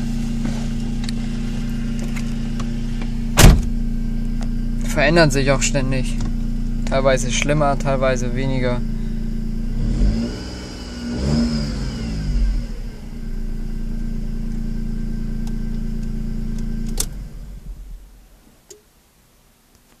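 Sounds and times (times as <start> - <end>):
car engine revving and running: 0.0 - 18.4
high engine whine: 0.0 - 18.5.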